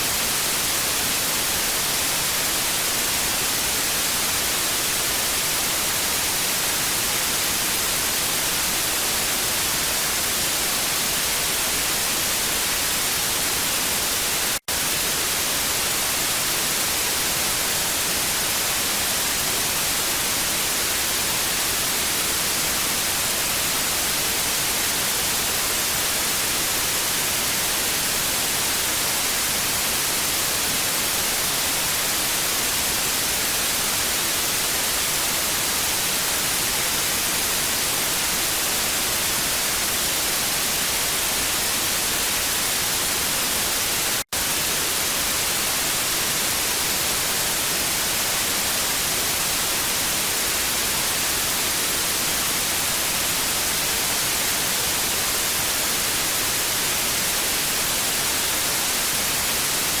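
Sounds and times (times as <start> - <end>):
tv static hiss: 0.0 - 60.0.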